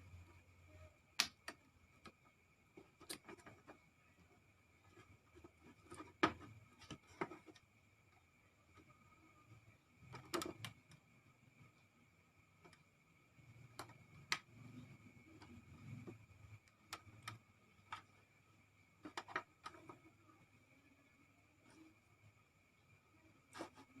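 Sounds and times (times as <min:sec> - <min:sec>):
faint steady high whine: 0:00.0 - 0:24.0.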